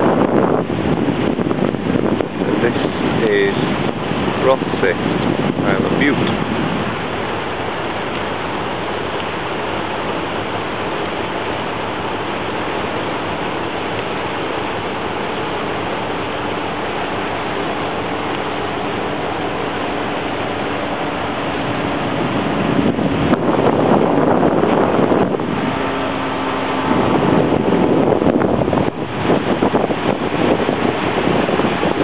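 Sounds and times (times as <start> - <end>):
faint engine hum: 0.0 - 32.0
water rushing along boat hull: 0.0 - 32.0.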